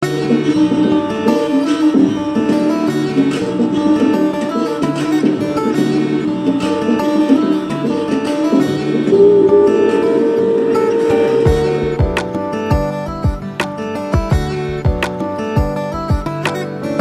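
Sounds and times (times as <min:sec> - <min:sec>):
plucked string background music: 0:00.0 - 0:17.0.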